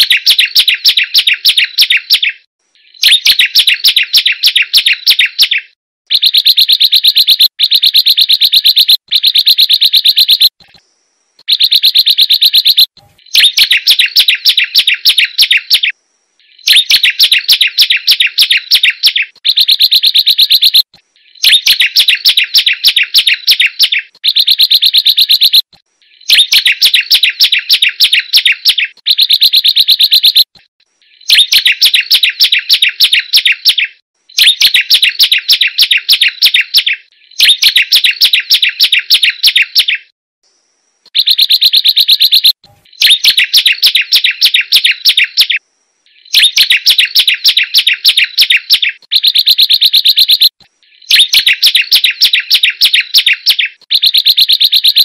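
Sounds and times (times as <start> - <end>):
bird singing rattling chirps: 0.0 - 10.8, 11.4 - 40.1, 41.0 - 55.0.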